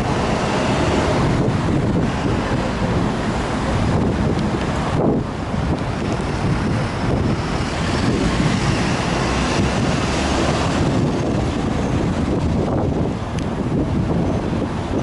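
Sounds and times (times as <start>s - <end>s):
road traffic passing: 0.0s - 15.0s
wind buffeting microphone: 0.0s - 15.0s.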